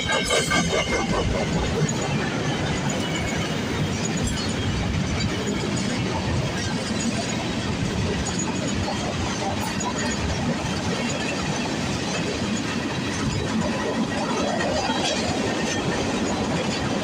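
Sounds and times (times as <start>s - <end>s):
freight train cars rolling: 0.0s - 17.0s.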